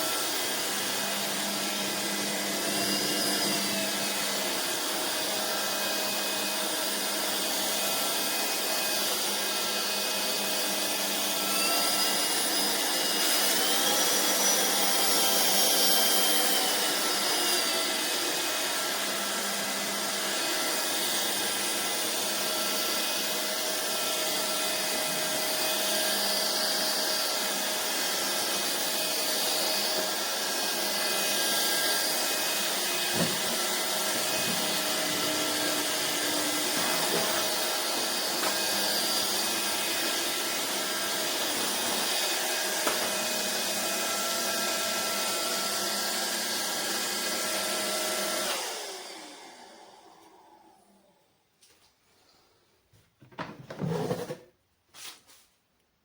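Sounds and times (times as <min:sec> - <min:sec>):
stick vacuum motor whine: 0:00.0 - 0:51.1.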